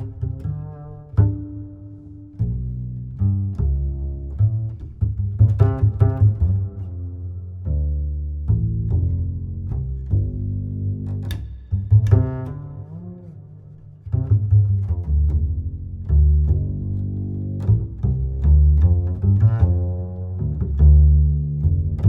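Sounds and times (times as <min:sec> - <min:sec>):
string music with steady beat: 0:00.0 - 0:22.0.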